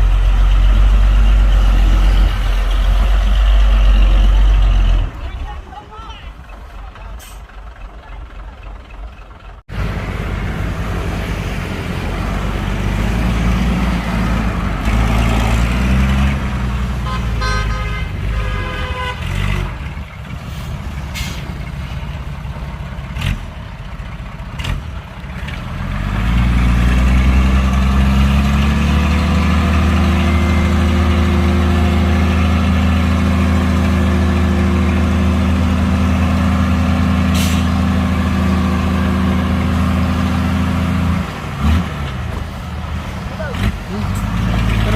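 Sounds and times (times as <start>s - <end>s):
heavy diesel engine running hard: 0.0s - 44.9s.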